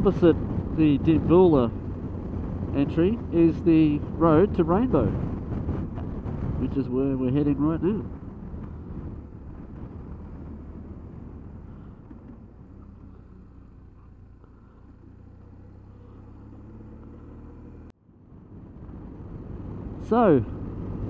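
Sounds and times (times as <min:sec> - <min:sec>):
road and wind noise: 0:00.0 - 0:21.0
motorcycle engine running: 0:00.1 - 0:21.0.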